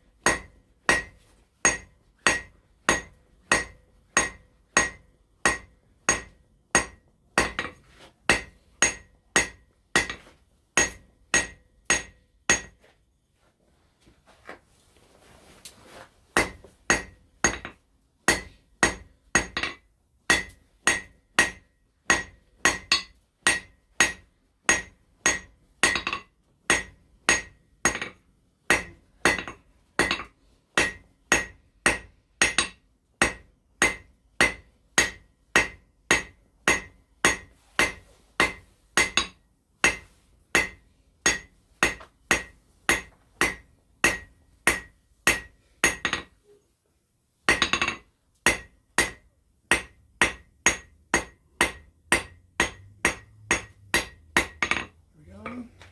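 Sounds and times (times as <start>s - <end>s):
hammer striking steel on anvil: 0.2s - 12.8s, 16.4s - 46.4s, 47.5s - 55.7s.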